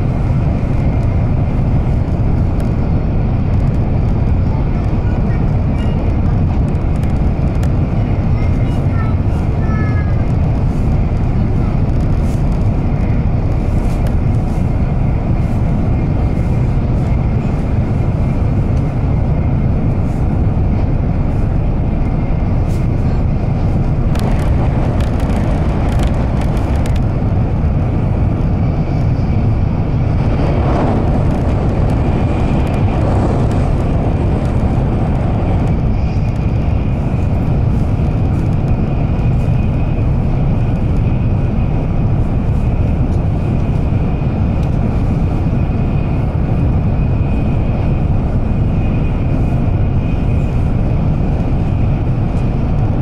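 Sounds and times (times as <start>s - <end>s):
train cabin low rumble: 0.0s - 53.0s.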